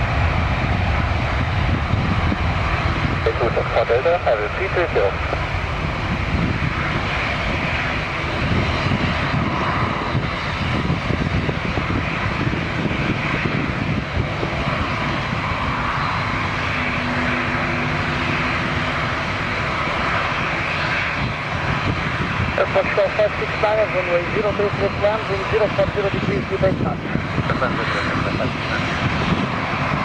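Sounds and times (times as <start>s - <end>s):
jet engines at takeoff thrust: 0.0s - 30.0s.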